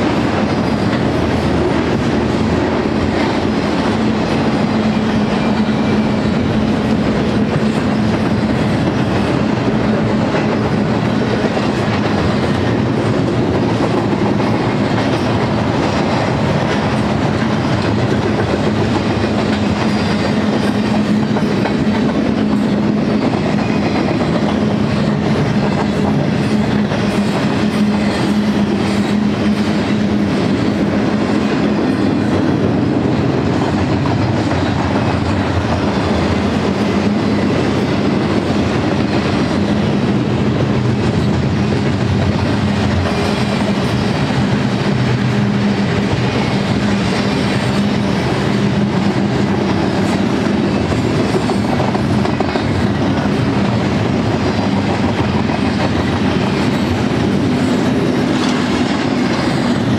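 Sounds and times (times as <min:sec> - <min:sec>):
freight train wheels rumbling on rails: 0:00.0 - 0:59.9.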